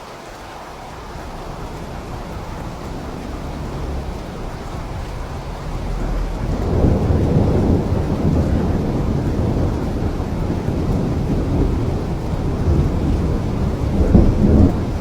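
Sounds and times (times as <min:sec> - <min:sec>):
rolling thunder rumble: 0:00.0 - 0:15.0
steady rain: 0:00.0 - 0:15.0.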